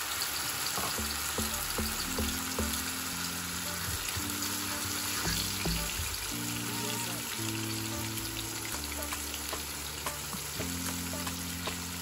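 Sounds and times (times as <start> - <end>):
tomato sizzling in hot oil: 0.0 - 12.0.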